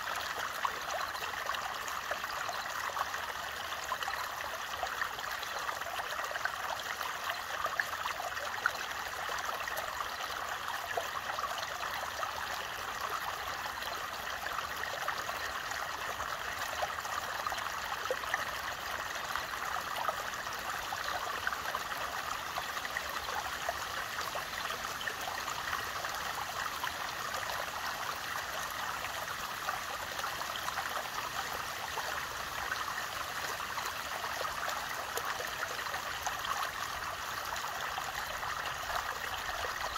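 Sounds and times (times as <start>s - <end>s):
creek babbling over stones: 0.0s - 39.9s.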